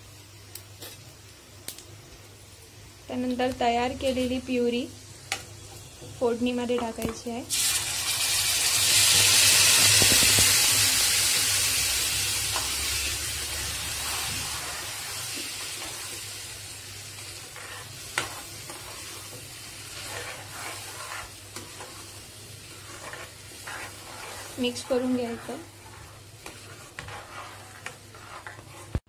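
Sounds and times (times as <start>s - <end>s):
puree sizzling in hot oil: 0.0s - 29.0s.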